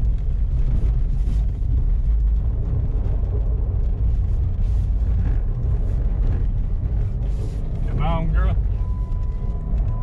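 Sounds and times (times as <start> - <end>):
car engine low rumble: 0.0 - 10.0.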